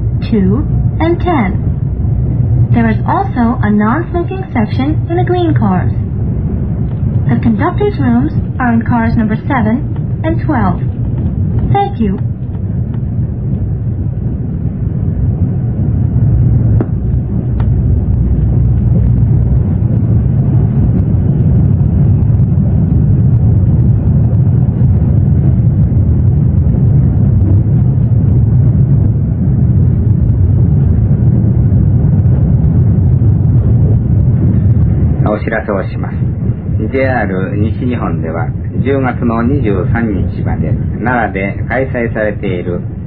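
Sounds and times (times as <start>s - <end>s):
train running rumble from inside: 0.0s - 43.0s.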